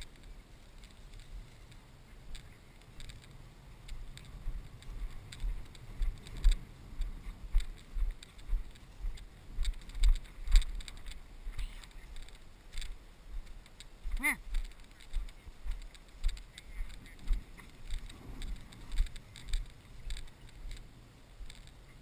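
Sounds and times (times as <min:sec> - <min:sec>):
footsteps through long grass: 0:00.0 - 0:22.0
grass rustling: 0:00.0 - 0:22.0.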